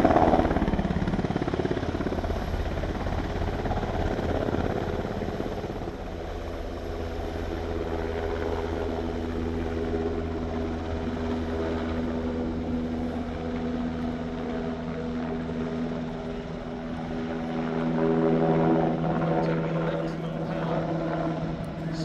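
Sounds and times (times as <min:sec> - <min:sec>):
aircraft droning hum: 0:00.0 - 0:22.0.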